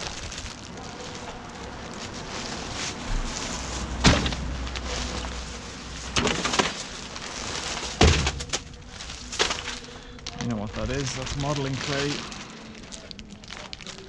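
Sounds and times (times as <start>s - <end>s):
plastic and cardboard crackling: 0.0s - 14.0s.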